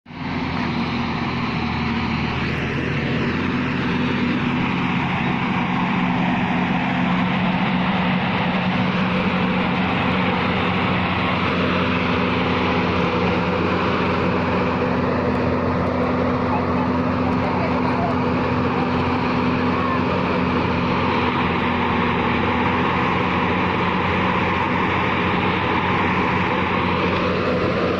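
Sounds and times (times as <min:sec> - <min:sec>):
heavy machinery engine droning: 0:00.0 - 0:27.9.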